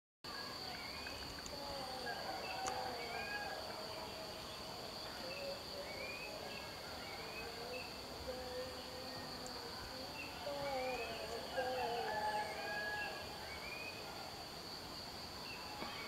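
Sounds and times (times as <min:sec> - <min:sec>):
high insect drone: 0:00.3 - 0:16.0.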